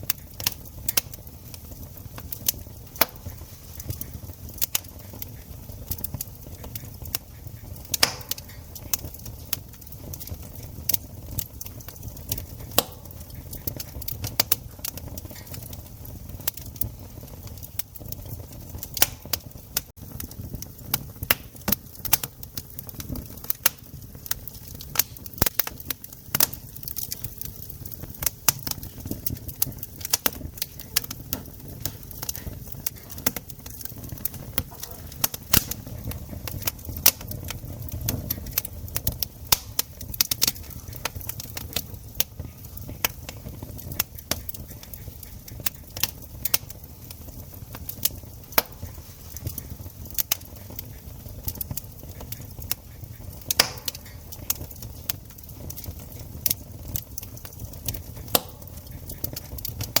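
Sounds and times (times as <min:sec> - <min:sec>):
campfire crackling and popping: 0:00.0 - 1:00.0.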